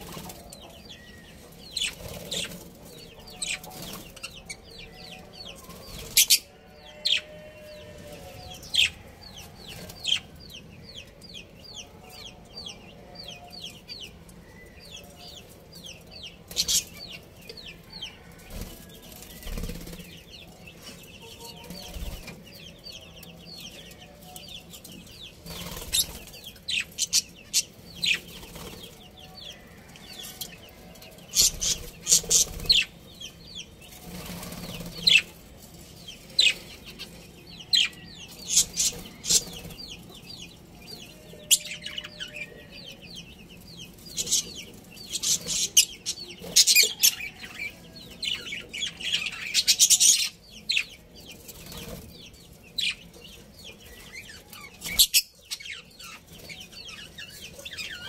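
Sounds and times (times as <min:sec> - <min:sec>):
budgerigars chirping and chattering: 0:00.0 - 0:18.2, 0:19.1 - 0:35.4, 0:36.1 - 0:58.0.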